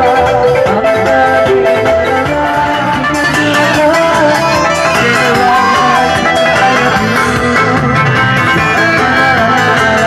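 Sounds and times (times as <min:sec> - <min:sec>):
live band music: 0:00.0 - 0:10.0
plucked string instrument: 0:00.0 - 0:10.0
wavering lead melody: 0:00.0 - 0:10.0.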